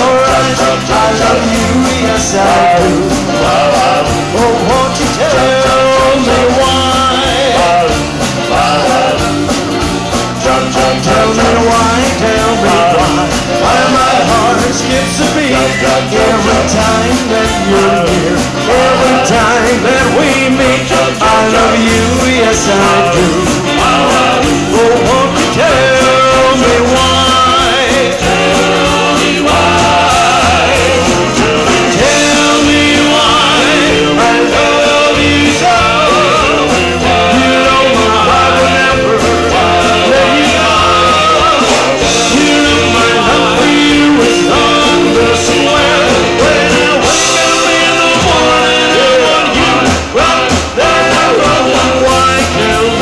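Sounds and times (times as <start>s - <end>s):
man singing into a microphone: 0.0s - 9.6s, 10.3s - 53.0s
live rock band playing: 0.0s - 53.0s.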